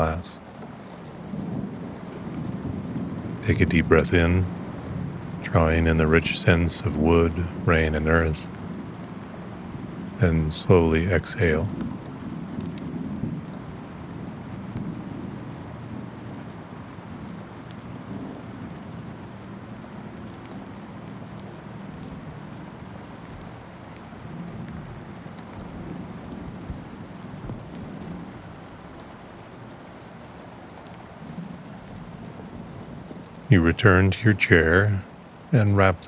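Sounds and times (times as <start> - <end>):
distant thunder rumbling: 0.0 - 0.4, 1.0 - 29.7
steady rain: 0.0 - 36.0.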